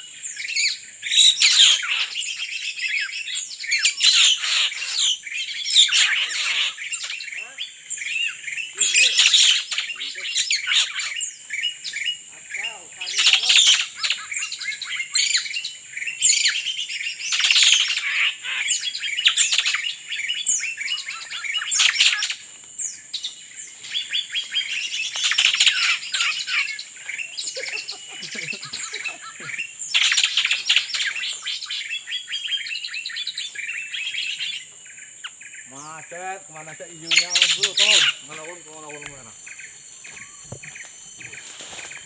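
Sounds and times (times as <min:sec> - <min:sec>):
birds chirping and trilling: 0:00.0 - 0:42.0.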